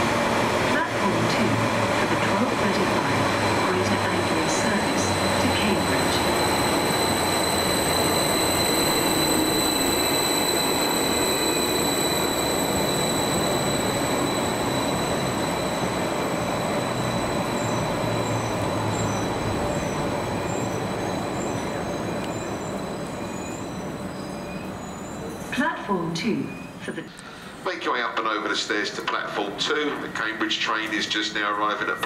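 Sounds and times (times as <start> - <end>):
train high whine: 0.0 - 32.0
train wheels rumbling on rail: 0.0 - 32.0.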